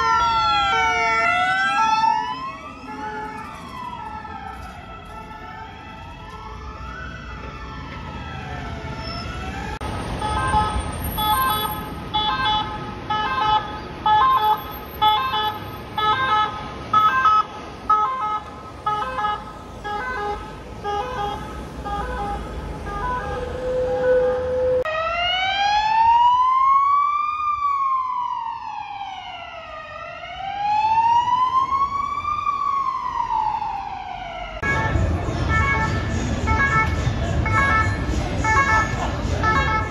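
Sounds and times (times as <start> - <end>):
pulsing two-tone siren: 0.0 - 39.9
siren gliding up and down: 0.0 - 39.9
slow wailing siren: 0.0 - 39.9
traffic noise: 0.0 - 39.9.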